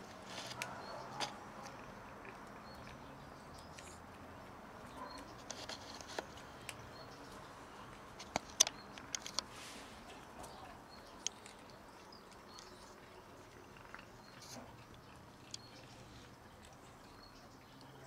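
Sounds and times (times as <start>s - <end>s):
cats crunching dry kibble: 0.0s - 18.0s.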